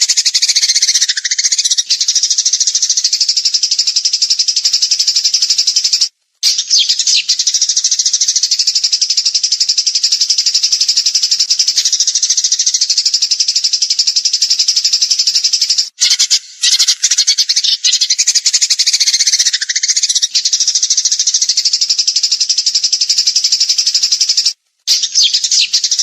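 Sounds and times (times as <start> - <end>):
songbird rattling trill: 0.0 - 26.0.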